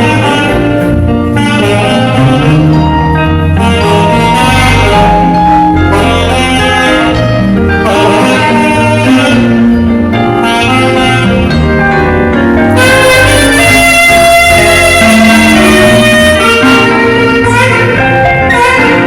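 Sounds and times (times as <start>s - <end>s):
backing music with bass line: 0.0s - 19.0s
saxophone melody: 0.0s - 19.0s.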